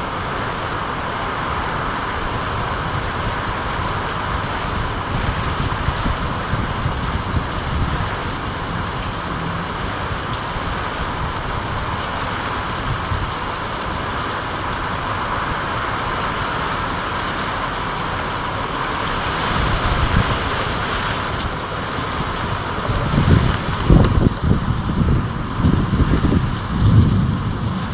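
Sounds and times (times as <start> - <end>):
low rumbling: 0.0 - 27.9
steady rain hiss: 0.0 - 27.9.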